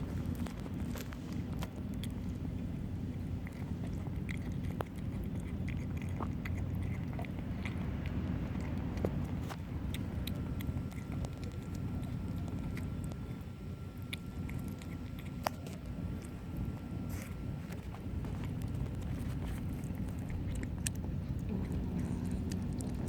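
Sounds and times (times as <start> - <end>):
kittens chewing and lapping: 0.0 - 23.0
steady low hum: 0.0 - 23.0.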